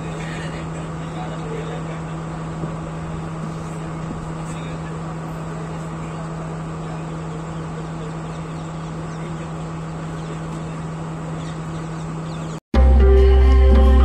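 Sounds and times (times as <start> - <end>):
train running noise: 0.0 - 12.6
low engine hum: 0.0 - 14.0.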